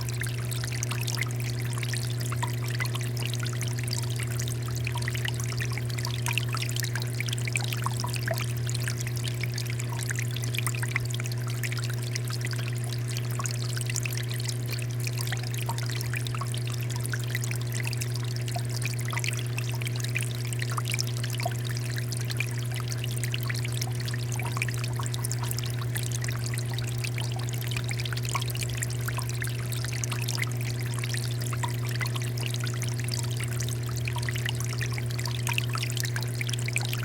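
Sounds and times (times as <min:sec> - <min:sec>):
water fountain trickling: 0:00.0 - 0:37.0.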